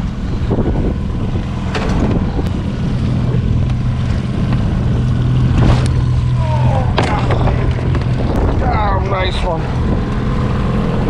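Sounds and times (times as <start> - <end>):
boat motor humming: 0.0 - 11.0
wind buffeting microphone: 0.0 - 11.0.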